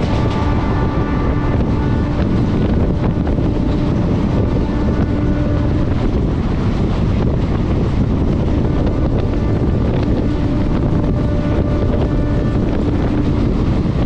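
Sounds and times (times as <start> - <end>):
train rushing with rail noise: 0.0 - 14.0
wind buffeting microphone: 0.0 - 14.0.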